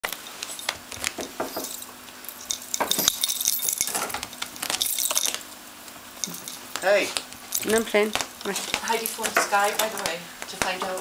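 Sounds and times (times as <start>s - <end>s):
small hard objects clicking: 0.0s - 11.0s.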